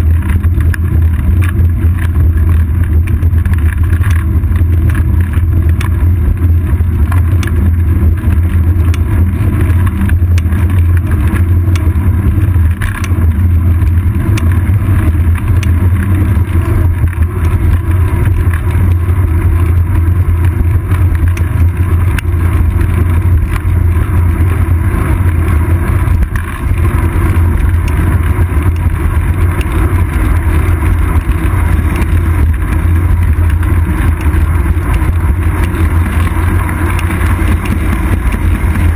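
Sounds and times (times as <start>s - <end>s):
bicycle road rumble: 0.0s - 38.9s
low wind: 0.0s - 38.9s.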